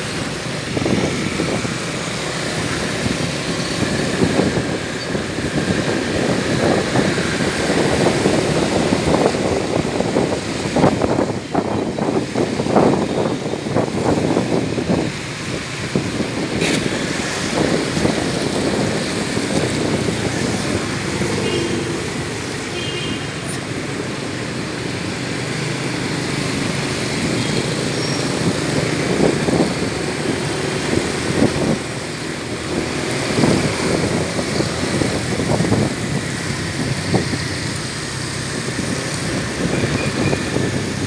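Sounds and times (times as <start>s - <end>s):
heavy rain: 0.0s - 41.0s
traffic on wet roads: 0.0s - 41.0s.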